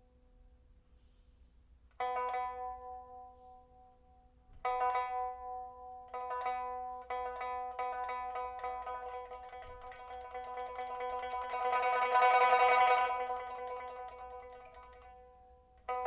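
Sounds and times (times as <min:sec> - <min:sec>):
plucked pipa notes: 0:02.0 - 0:16.0.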